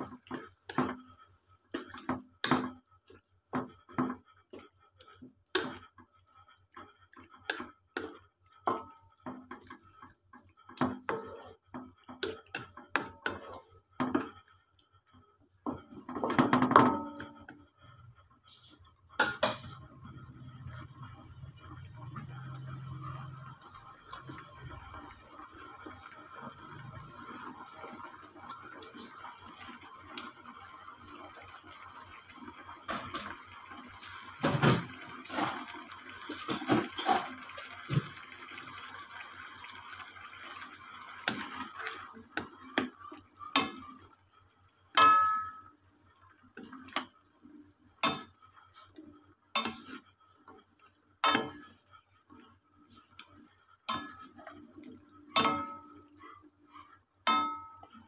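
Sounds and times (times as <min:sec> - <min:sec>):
sauce sizzling in a wok: 0:00.0 - 0:14.6, 0:15.2 - 0:58.0.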